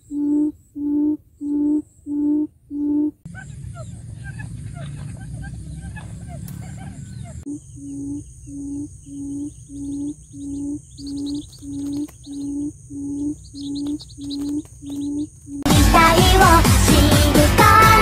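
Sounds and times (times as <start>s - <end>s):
buttonquail low hoots: 0.0s - 15.7s
insects trilling: 0.0s - 15.7s
small birds chirping: 0.0s - 15.7s.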